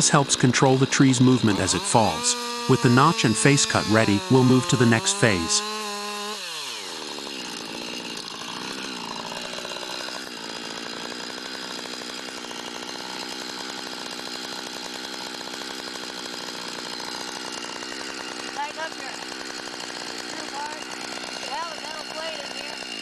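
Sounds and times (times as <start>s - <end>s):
chainsaw revving and idling: 0.0s - 23.0s.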